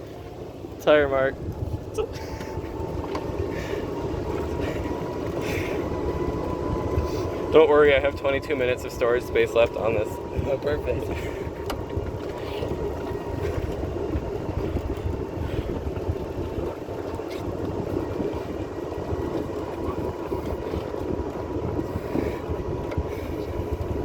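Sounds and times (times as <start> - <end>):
golf cart rumbling along: 0.0 - 24.0
wind on microphone: 1.1 - 24.0.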